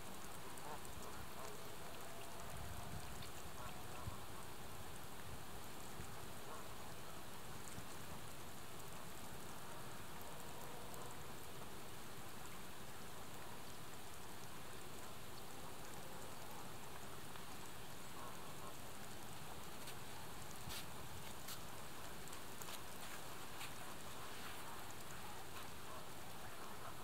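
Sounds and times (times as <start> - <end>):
outdoor ambience hiss: 0.0 - 27.0.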